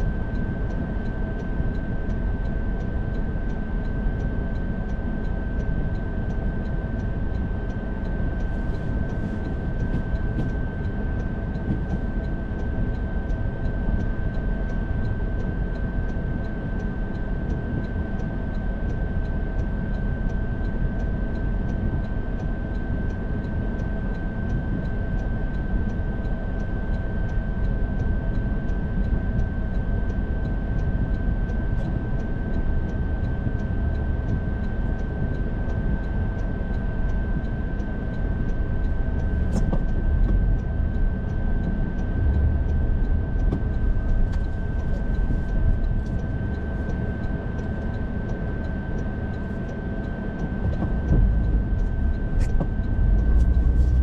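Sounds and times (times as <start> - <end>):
engine and tyre rumble: 0.0 - 18.5, 24.7 - 54.0
thin steady whine: 0.0 - 54.0.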